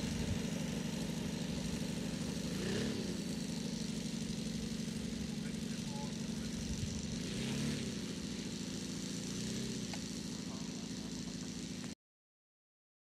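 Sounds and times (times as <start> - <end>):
model plane engine running: 0.0 - 12.0.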